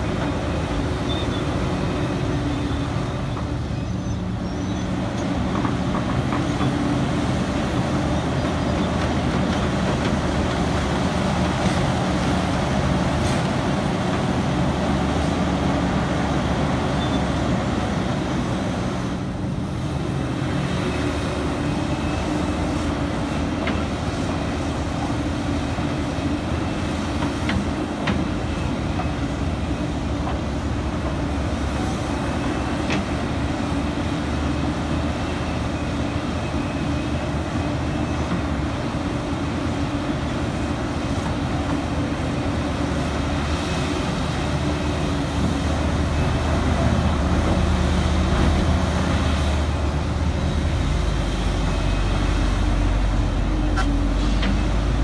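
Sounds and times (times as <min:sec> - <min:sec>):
excavator diesel engine drone: 0:00.0 - 0:55.0.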